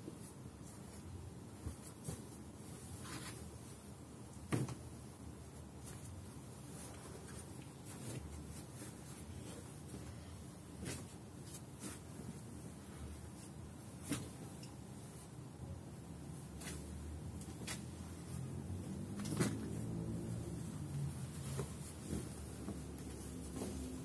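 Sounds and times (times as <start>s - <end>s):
soft rustling of bedding: 0.0s - 24.0s.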